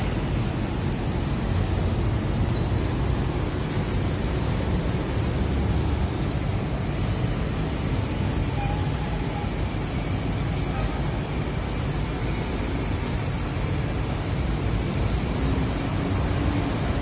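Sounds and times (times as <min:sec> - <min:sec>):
crane diesel engine rumbling: 0:00.0 - 0:17.0.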